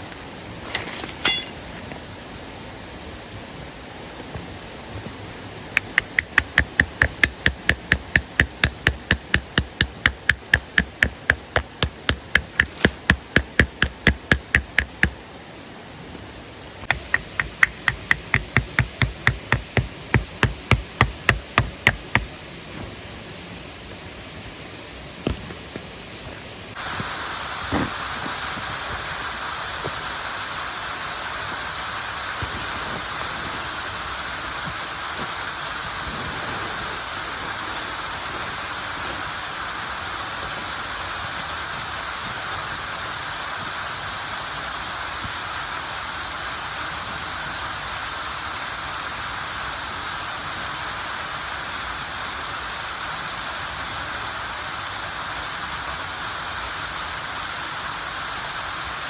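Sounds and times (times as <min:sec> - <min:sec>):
stream and waterfall rushing: 0:00.0 - 0:59.0.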